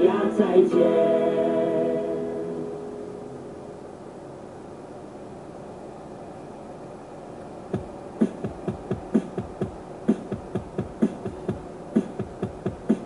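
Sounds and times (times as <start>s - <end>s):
steady low running noise: 1.0s - 13.0s.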